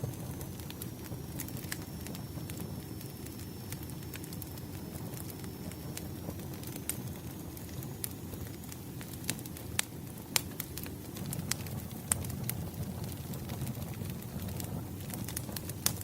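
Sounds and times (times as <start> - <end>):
fire flames rushing: 0.0 - 16.0
logs crackling and popping: 0.0 - 16.0.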